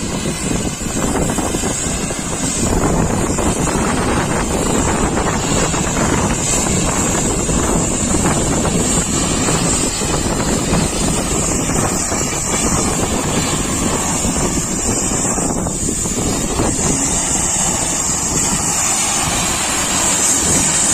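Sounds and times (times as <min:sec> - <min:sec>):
high-pressure water spray: 0:00.0 - 0:20.9.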